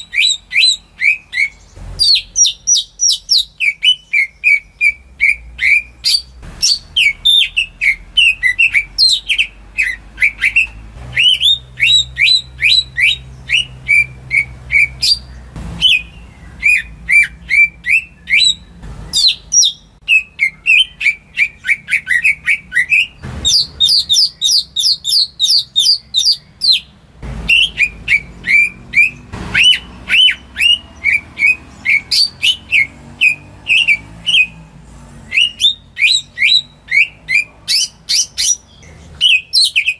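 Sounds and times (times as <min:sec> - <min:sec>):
bird singing whistled chirps: 0:00.0 - 0:34.6, 0:35.3 - 0:39.9.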